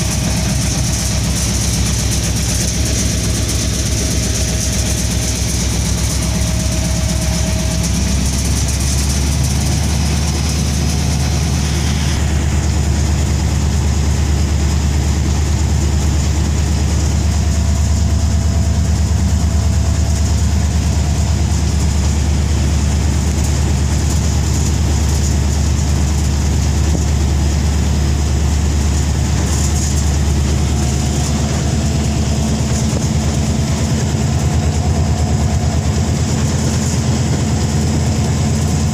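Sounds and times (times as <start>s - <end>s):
diesel locomotive engine drone: 0.0s - 38.9s.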